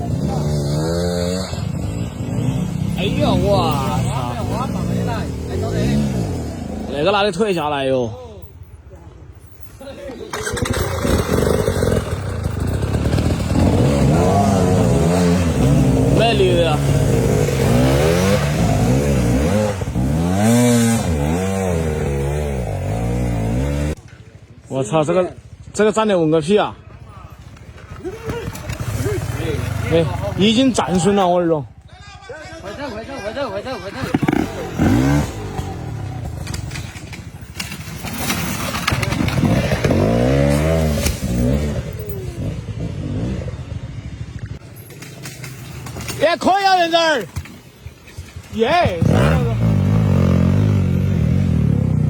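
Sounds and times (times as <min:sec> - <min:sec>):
dirt bike engines revving: 0:00.0 - 0:52.0.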